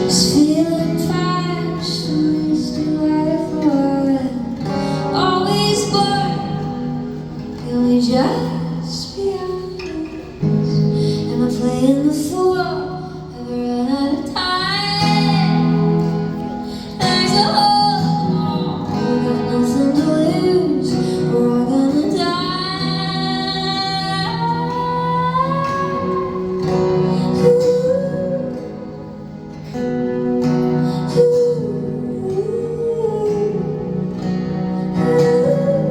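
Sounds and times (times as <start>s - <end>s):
acoustic guitar chords: 0.0s - 35.9s
woman singing: 0.0s - 35.9s.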